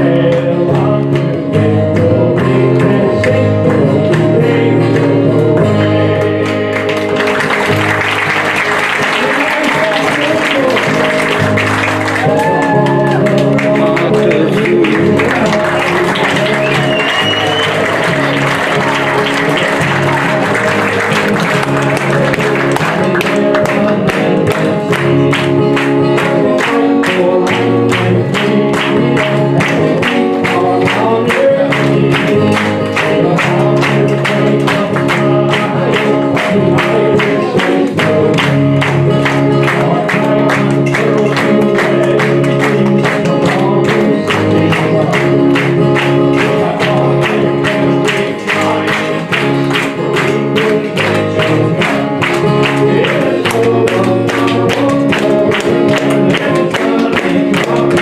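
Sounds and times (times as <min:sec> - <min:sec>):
audience clapping along: 0:00.0 - 0:58.0
live song with acoustic guitar: 0:00.0 - 0:58.0.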